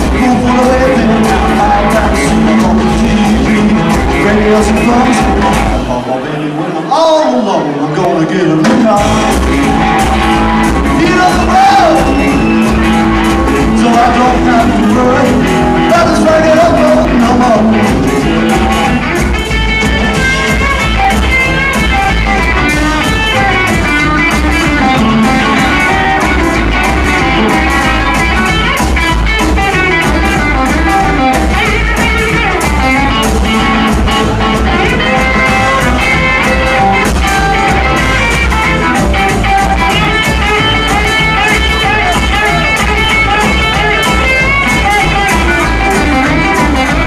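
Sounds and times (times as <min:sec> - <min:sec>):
drum kit: 0:00.0 - 0:06.1, 0:08.5 - 0:47.0
bass guitar: 0:00.0 - 0:47.0
electric guitar lead: 0:00.0 - 0:47.0.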